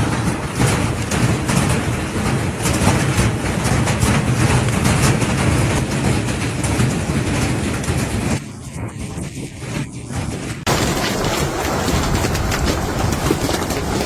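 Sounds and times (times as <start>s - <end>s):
hailstones pelting down: 0.0s - 9.3s, 10.6s - 14.0s.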